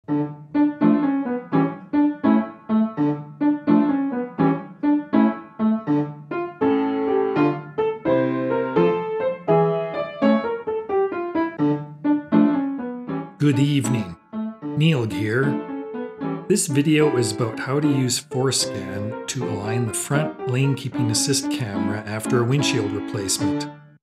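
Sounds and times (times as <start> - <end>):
piano tune: 0.0 - 24.0.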